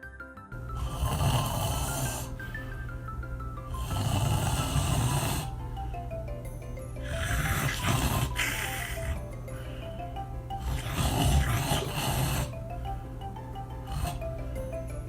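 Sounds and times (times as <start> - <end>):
background music: 0.0 - 15.0
person snoring: 0.6 - 3.0, 3.6 - 15.0.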